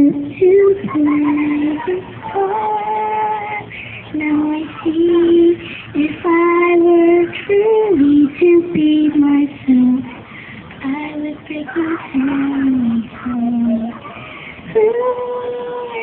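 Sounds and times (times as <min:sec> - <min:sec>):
girl singing slow melody: 0:00.0 - 0:16.0.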